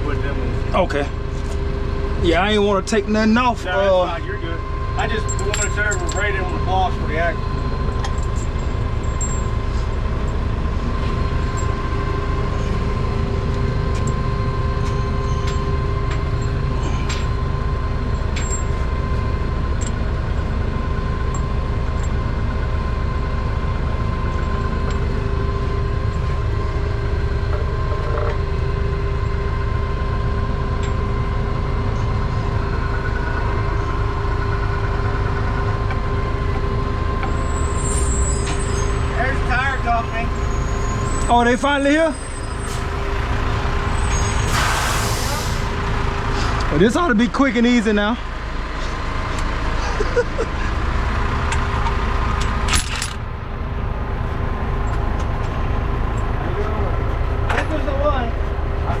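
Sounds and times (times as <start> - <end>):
large engine droning: 0.0 - 59.0
steady whine: 0.0 - 59.0.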